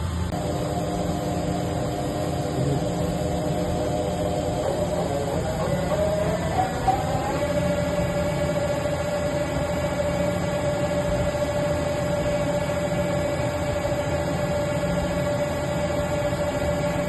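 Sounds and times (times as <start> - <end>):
constant low hum: 0.0 - 17.0
lathe whine: 0.0 - 17.0.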